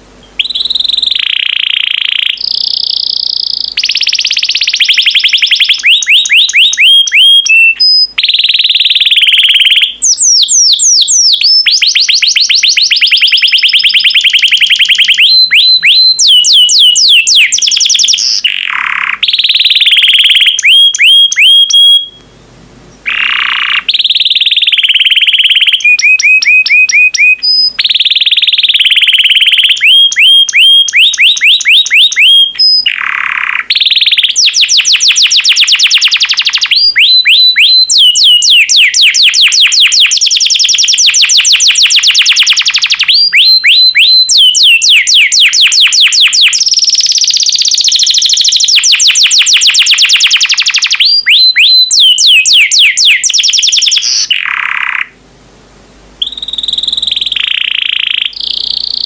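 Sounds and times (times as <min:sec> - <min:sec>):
canary singing rapid trills: 0:00.2 - 0:22.2, 0:22.9 - 0:55.2, 0:56.2 - 0:59.0.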